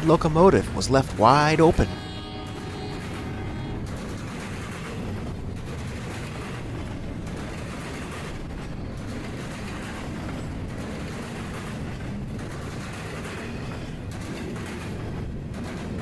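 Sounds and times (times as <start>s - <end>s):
freight train rumbling past: 0.0s - 16.0s
wheel-on-rail clatter: 0.0s - 16.0s.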